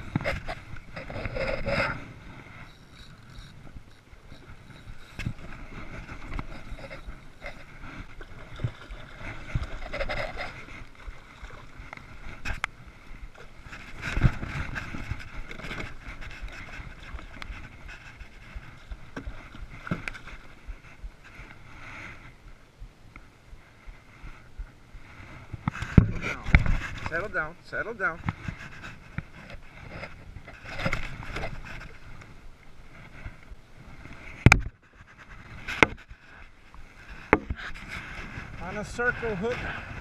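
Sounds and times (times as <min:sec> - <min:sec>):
water lapping and splashing: 0:00.0 - 0:40.0.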